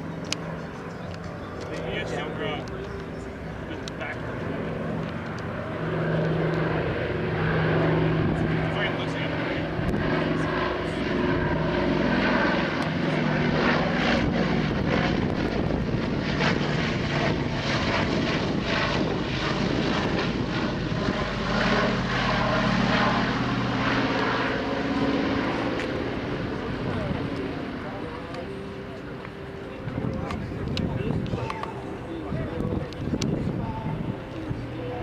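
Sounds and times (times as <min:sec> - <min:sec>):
propeller plane droning past: 0:00.0 - 0:35.0.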